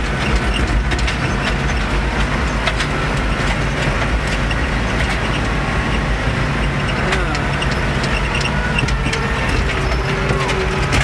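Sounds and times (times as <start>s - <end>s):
light rattles and clicks: 0.0s - 11.0s
tractor engine running steadily: 0.0s - 11.0s.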